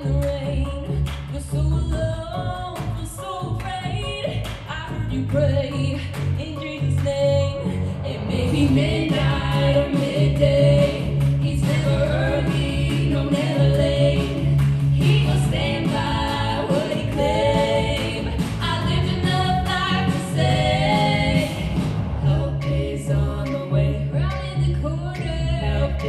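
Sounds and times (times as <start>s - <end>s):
women singing in harmony: 1.6s - 26.0s.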